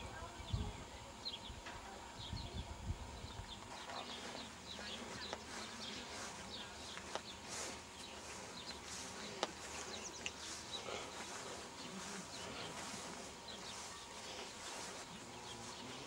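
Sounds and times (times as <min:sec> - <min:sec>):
steady buzzing hiss: 0:00.0 - 0:16.0.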